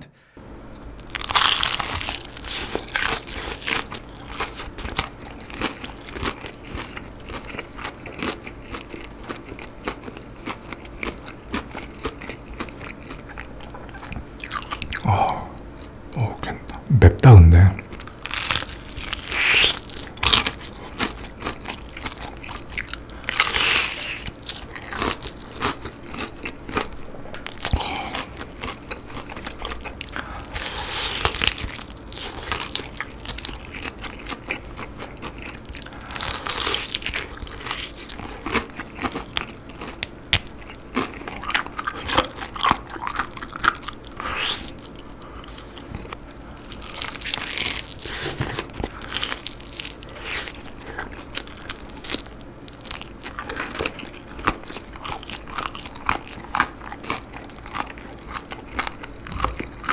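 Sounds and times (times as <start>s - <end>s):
crunchy bites into fried chicken: 1.0s - 13.3s, 18.0s - 59.9s
chewing: 1.2s - 16.8s, 17.8s - 59.9s.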